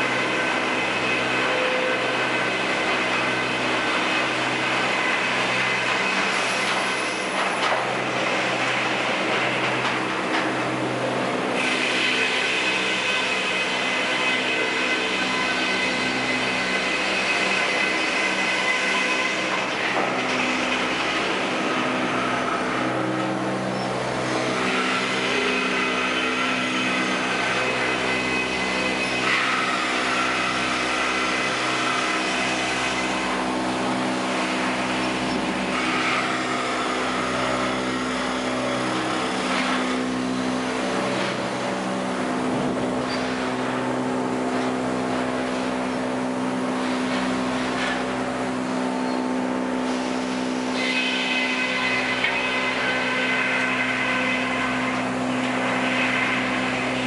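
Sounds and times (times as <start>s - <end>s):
high machine whine: 0.0s - 57.0s
sawmill engine drone: 0.0s - 57.0s.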